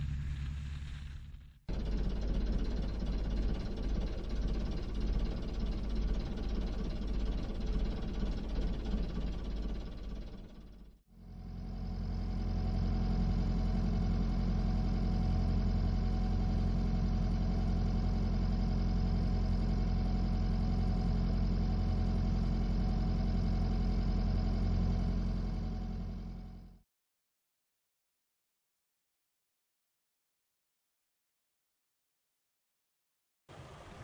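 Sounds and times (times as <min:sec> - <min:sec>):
diesel engine running at low revs: 0:00.0 - 0:26.8, 0:33.5 - 0:34.0.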